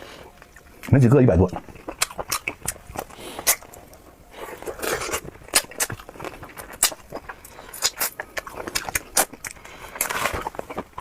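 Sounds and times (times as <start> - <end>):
person chewing food: 0.0 - 0.9, 1.5 - 11.0.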